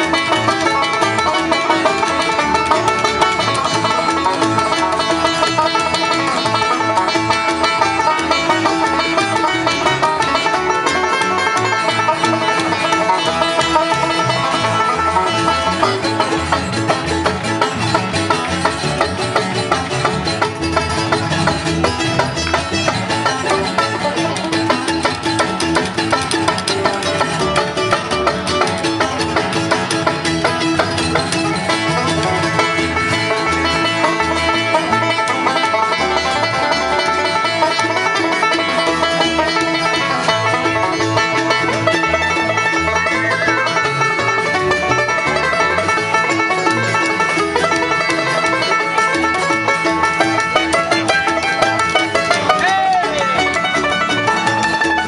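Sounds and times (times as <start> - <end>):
banjo picking: 0.0 - 55.0
bluegrass band playing: 0.0 - 55.0.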